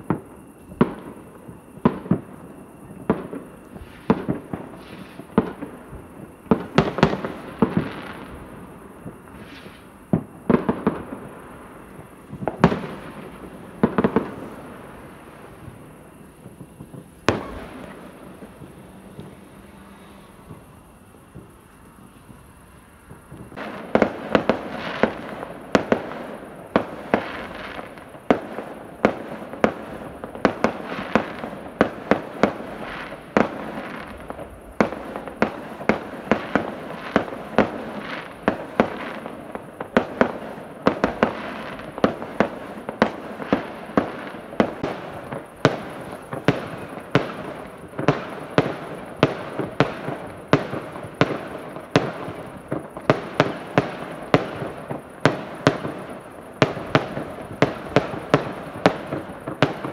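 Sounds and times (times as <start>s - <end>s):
fireworks bangs and pops: 0.0s - 59.9s
overlapping fireworks crackle: 0.0s - 59.9s.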